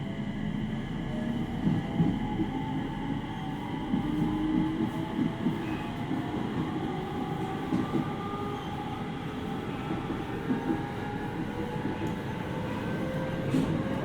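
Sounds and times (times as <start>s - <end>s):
train wheel and rail rumble: 0.0s - 14.0s.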